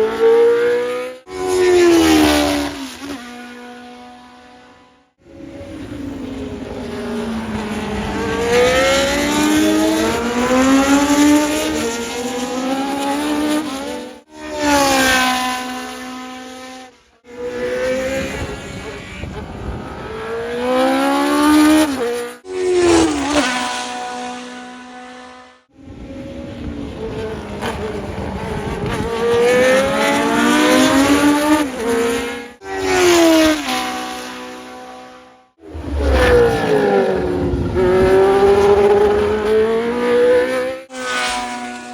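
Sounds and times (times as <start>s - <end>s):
racing car engines passing by: 0.0s - 41.9s.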